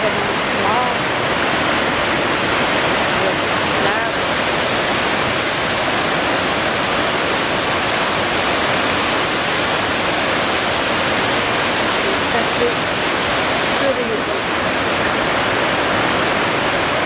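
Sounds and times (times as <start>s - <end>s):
river rushing over rapids: 0.0s - 17.0s.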